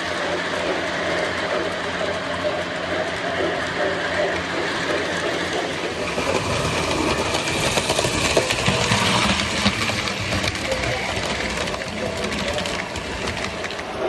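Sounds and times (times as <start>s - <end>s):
model train wheels rattling: 0.0s - 14.0s.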